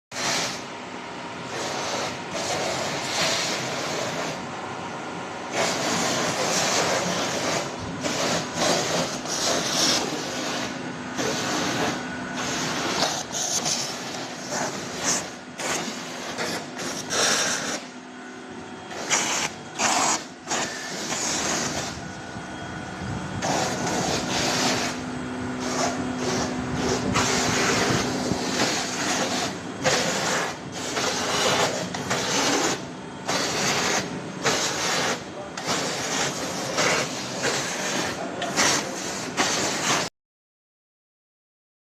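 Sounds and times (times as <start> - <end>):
hissing bursts of air: 0.1 - 0.7, 1.4 - 4.5, 5.5 - 17.9, 18.9 - 22.2, 23.4 - 40.1
motor hum: 2.4 - 37.6.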